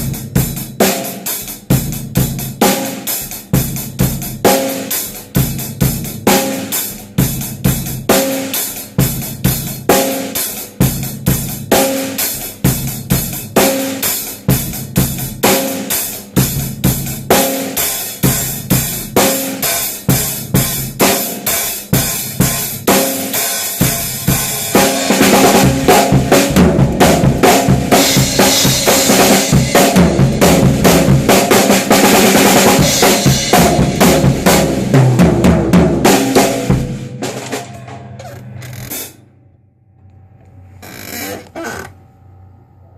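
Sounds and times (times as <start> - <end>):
drum kit playing a beat: 0.0 - 39.2.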